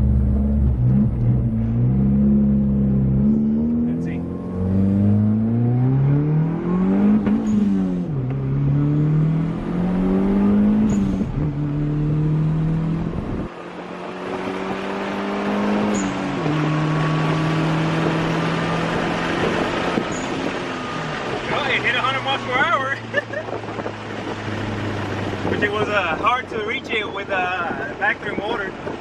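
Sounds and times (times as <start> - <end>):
car engine accelerating: 0.0 - 29.0
wind and road noise: 0.0 - 29.0.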